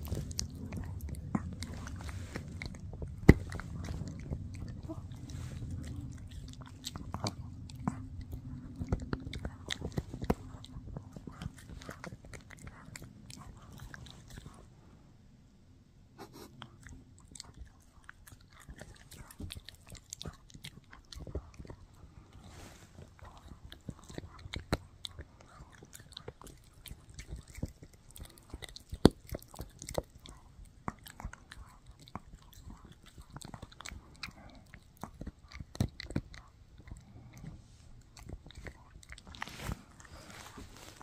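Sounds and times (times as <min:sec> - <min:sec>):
dog gnawing a chew: 0:00.0 - 0:14.7, 0:16.5 - 0:41.0.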